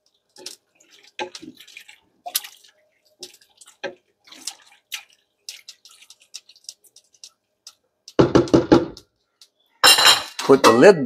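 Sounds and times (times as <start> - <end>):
spoon stirring in a pot: 0.0 - 10.0.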